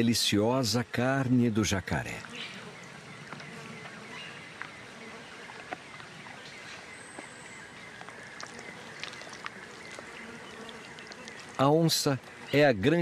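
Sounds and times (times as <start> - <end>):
birds: 0.0 - 13.0
insects: 0.0 - 13.0.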